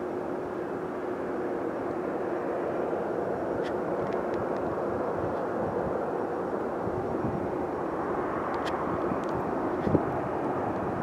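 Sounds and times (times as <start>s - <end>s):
engine hum: 0.0s - 11.0s
jet engine rushing: 0.0s - 11.0s.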